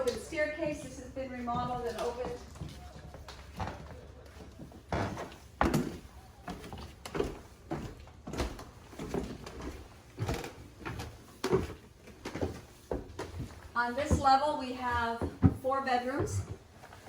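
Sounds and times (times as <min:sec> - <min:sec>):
footsteps climbing stairs: 0:00.0 - 0:17.0.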